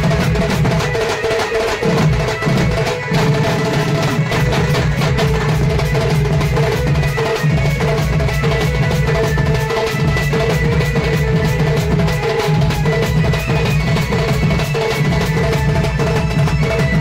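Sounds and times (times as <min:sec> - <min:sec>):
barrel drums beaten with sticks: 0:00.0 - 0:17.0.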